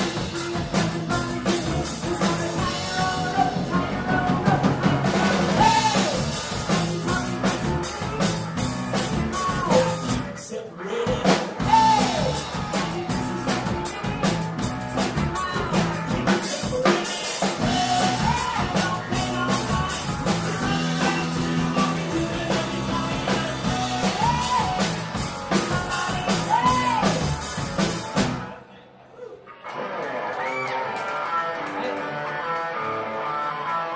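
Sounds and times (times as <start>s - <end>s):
drum kit: 0.0s - 10.4s, 11.0s - 28.6s
person singing: 0.0s - 27.5s
electric guitar: 0.0s - 28.6s, 29.5s - 33.9s.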